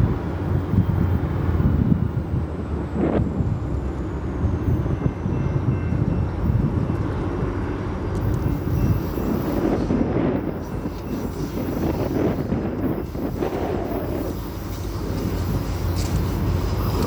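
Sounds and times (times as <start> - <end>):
locomotive engine rumble: 0.0 - 17.0.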